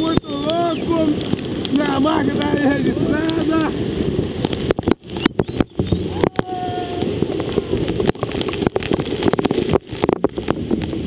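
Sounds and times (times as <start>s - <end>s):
waterfall rushing: 0.0s - 11.0s
wind and water hitting microphone: 0.0s - 11.0s.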